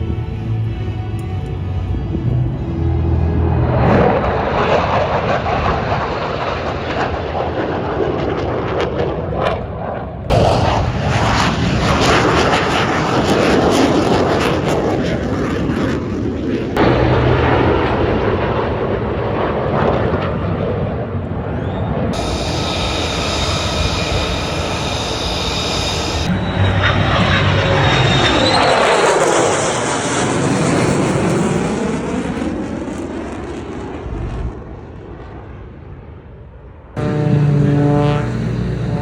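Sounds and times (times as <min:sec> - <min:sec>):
jet engine roar: 0:00.0 - 0:39.0.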